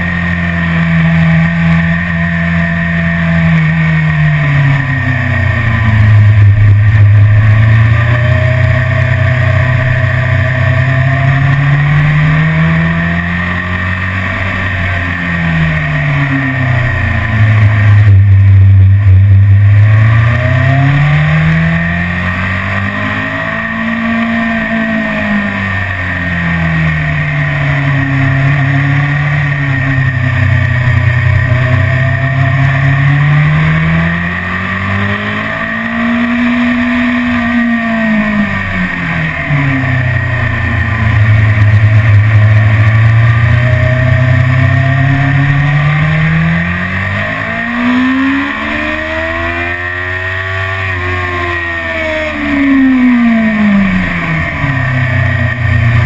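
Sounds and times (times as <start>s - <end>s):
motorcycle engine revving: 0.0s - 56.0s
rush of noise: 0.0s - 56.0s.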